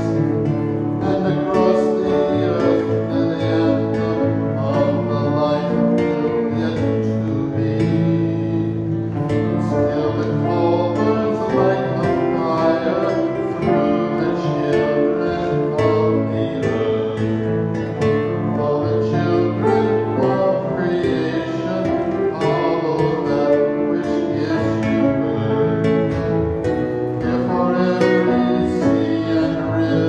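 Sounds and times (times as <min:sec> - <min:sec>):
guitar accompaniment: 0:00.0 - 0:30.0
man singing: 0:00.0 - 0:30.0.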